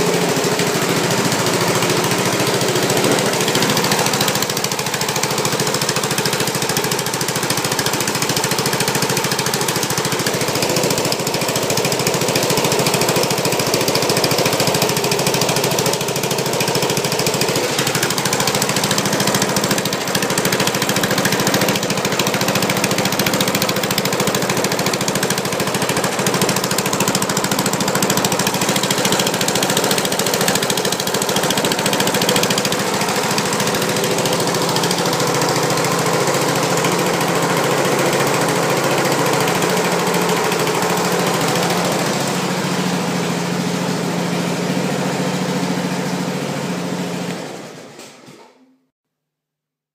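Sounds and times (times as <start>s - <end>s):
mower engine running steadily: 0.0s - 48.5s.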